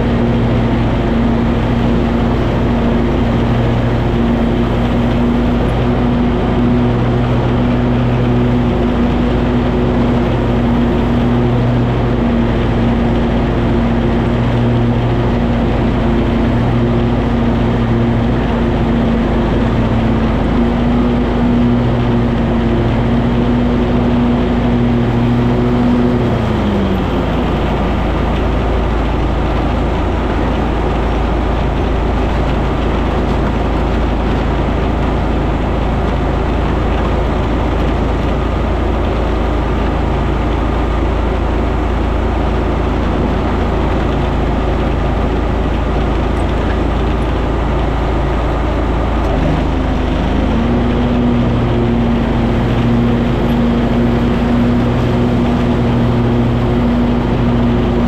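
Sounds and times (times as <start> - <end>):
garden tractor mowing: 0.0 - 58.0.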